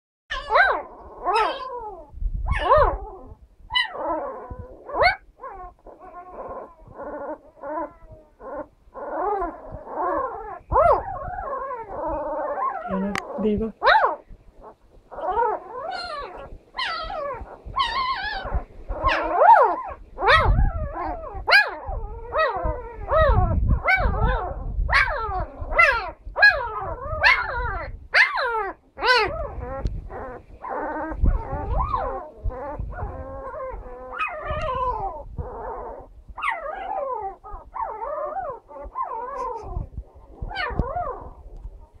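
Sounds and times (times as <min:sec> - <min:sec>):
puppy yelping and whining: 0:00.3 - 0:42.0.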